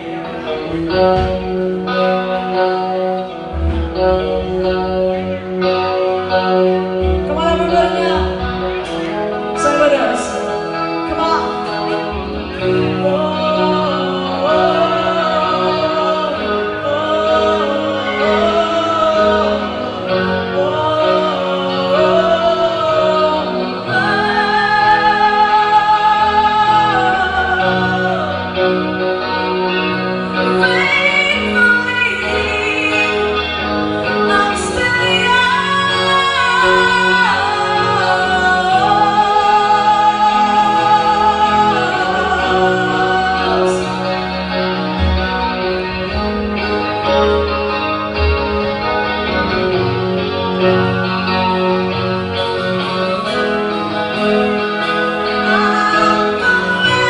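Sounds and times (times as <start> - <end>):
live rock band playing: 0.0 - 57.0
person singing long notes: 0.0 - 57.0.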